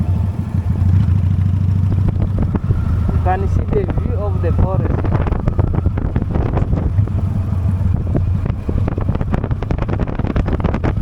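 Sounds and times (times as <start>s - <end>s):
motorcycle engine running: 0.0s - 11.0s
wind buffeting microphone: 0.6s - 11.0s.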